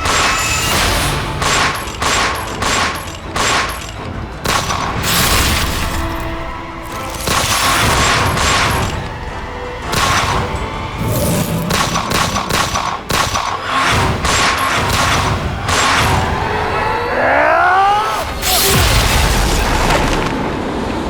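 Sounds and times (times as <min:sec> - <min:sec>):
dramatic background music: 0:00.0 - 0:21.0.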